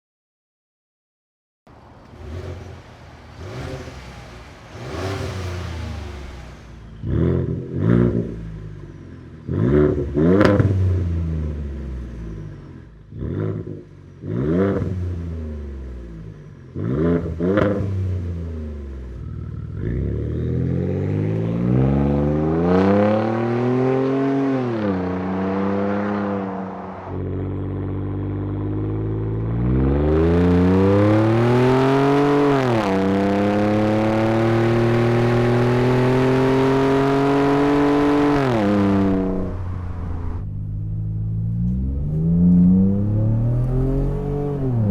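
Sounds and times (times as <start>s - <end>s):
engine throttle blips: 1.7s - 44.9s
truck engine accelerating: 1.7s - 44.9s.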